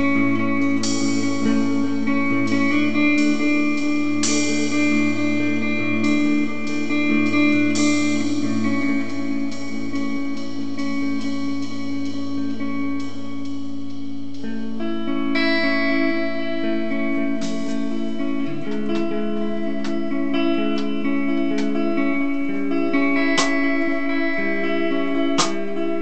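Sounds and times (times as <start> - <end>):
electric guitar ringing chords: 0.0 - 26.0.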